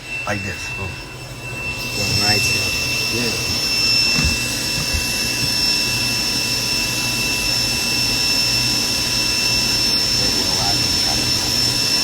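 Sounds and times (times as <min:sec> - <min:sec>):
jet turbine engines whining: 0:00.0 - 0:12.0.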